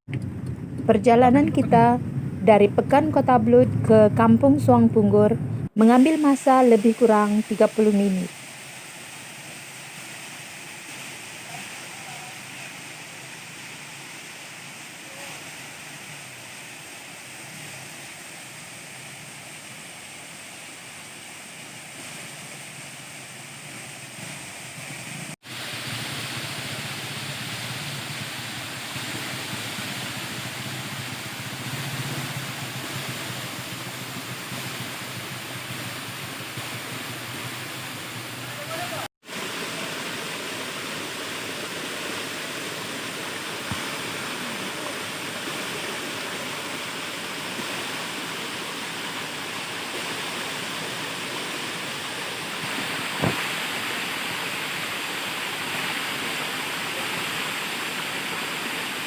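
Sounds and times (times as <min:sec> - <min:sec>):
flowing water rushing: 0:05.8 - 0:59.0.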